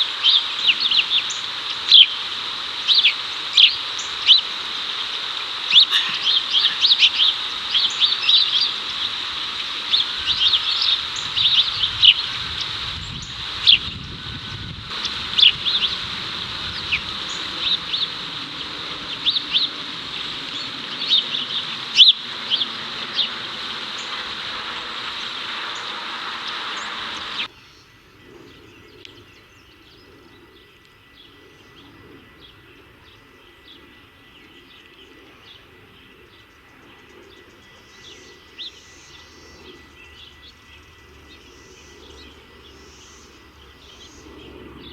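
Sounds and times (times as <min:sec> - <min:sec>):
cicadas buzzing: 0:00.0 - 0:44.9
sparrows chirping: 0:00.0 - 0:44.9.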